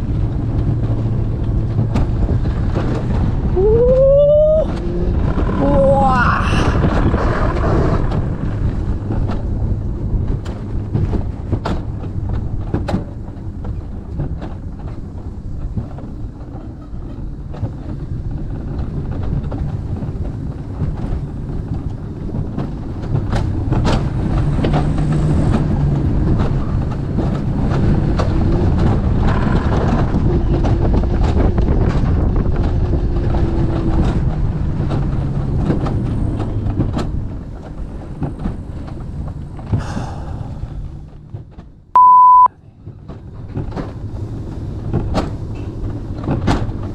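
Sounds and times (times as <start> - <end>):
sled rumbling on metal rail: 0.0 - 41.9, 42.9 - 46.9
wind buffeting microphone: 0.0 - 41.9.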